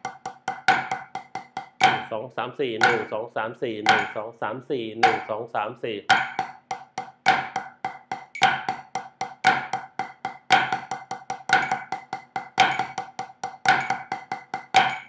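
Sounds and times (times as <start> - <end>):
drumsticks on a practice pad: 0.0 - 2.1, 2.8 - 3.2, 3.8 - 4.2, 5.0 - 5.4, 6.1 - 15.0.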